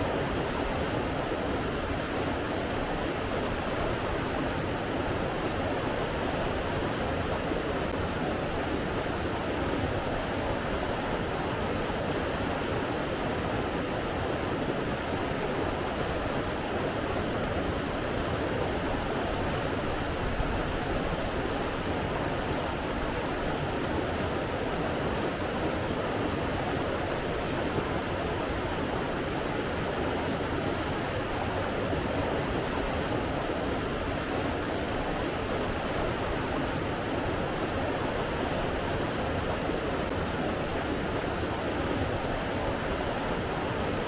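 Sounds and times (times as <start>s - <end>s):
flowing water: 0.0s - 44.0s.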